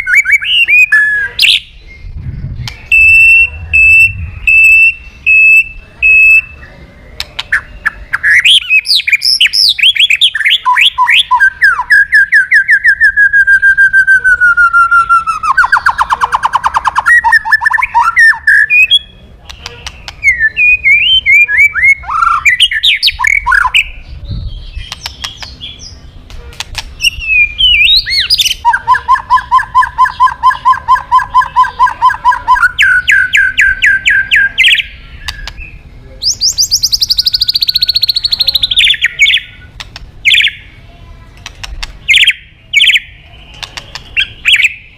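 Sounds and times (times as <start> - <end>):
songbird singing loudly: 0.0 - 40.8, 42.0 - 44.9.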